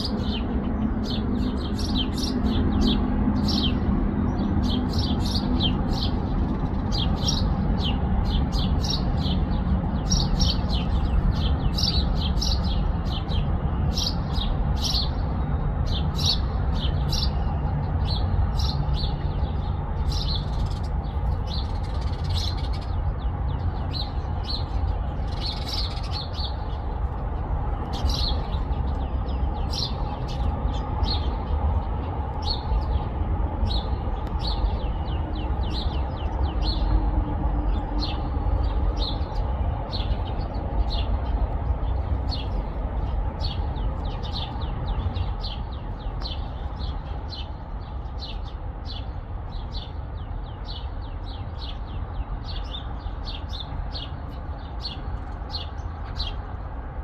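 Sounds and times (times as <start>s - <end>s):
steady low rumble: 0.0s - 46.9s
small birds chirping: 0.0s - 56.8s.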